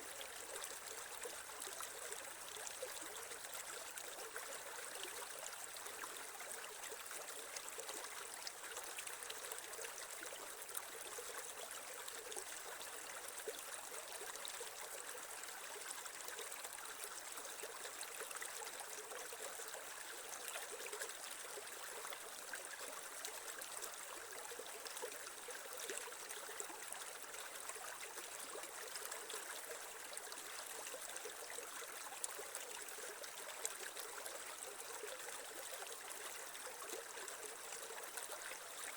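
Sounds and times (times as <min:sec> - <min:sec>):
creek water trickling over stones: 0:00.0 - 0:38.9.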